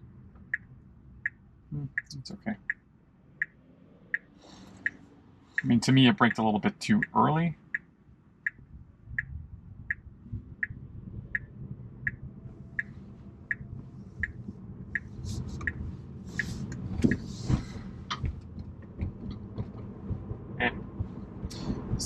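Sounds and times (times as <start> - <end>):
road noise rumble: 0.0 - 22.0
car turn signal ticking: 0.4 - 5.0, 5.6 - 12.2, 12.8 - 21.8.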